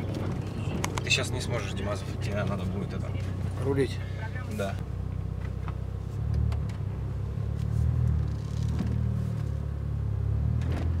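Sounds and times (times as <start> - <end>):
car engine drone from inside cabin: 0.0 - 11.0.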